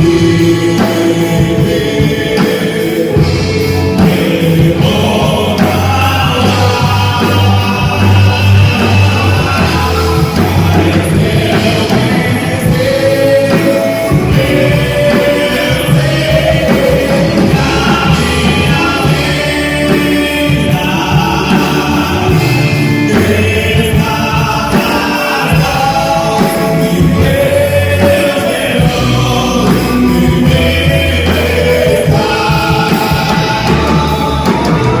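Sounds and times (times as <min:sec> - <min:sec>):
bass: 0:00.0 - 0:35.0
drums: 0:00.0 - 0:35.0
voices singing: 0:00.0 - 0:35.0.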